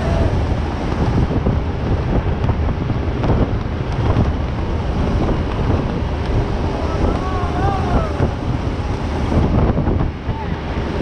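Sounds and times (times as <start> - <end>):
vehicle low rumble: 0.0 - 11.0
wind buffeting microphone: 0.0 - 11.0.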